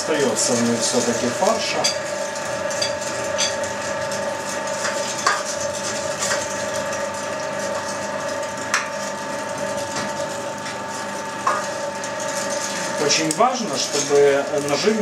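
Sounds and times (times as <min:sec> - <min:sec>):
electric meat grinder whining: 0:00.0 - 0:15.0.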